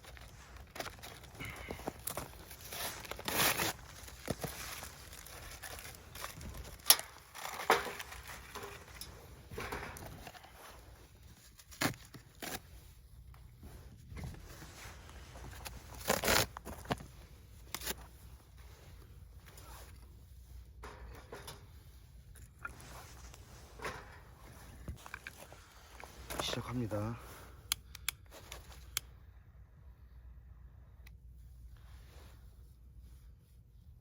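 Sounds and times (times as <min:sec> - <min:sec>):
faint crinkling: 0:00.0 - 0:29.4.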